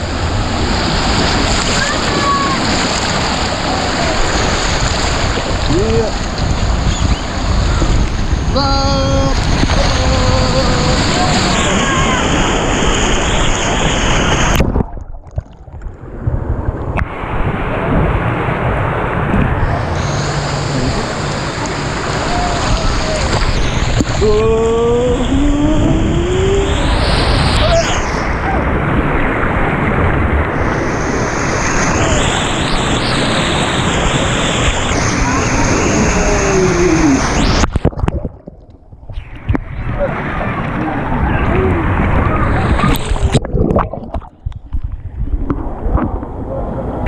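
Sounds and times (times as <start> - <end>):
rushing splashing water: 0.0 - 47.0
wind on microphone: 0.0 - 47.0.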